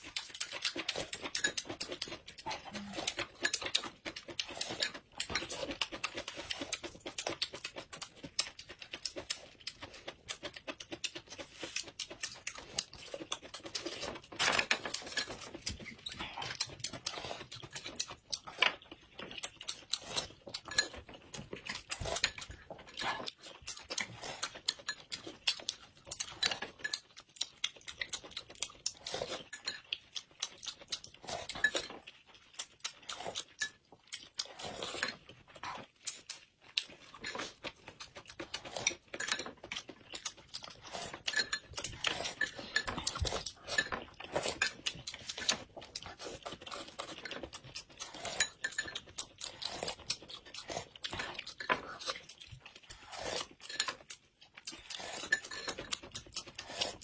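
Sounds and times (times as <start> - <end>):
chopsticks and spoon clinking bowls: 0.0 - 57.0
people chewing: 0.0 - 57.0.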